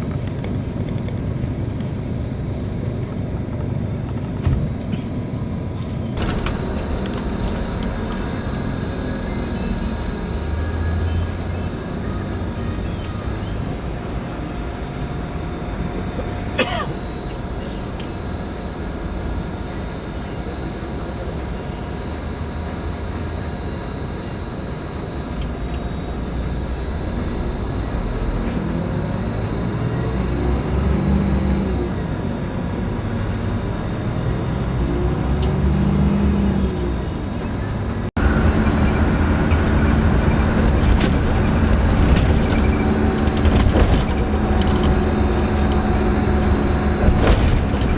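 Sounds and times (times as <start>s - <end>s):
coach engine drone: 0.0s - 47.9s
road noise: 0.0s - 47.9s.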